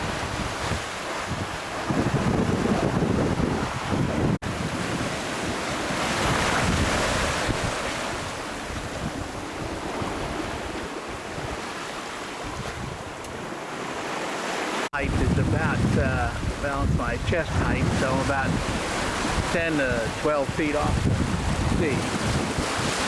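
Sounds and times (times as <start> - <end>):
wind buffeting microphone: 0.0 - 14.2, 15.0 - 23.0
waves rushing along hull: 0.0 - 23.0.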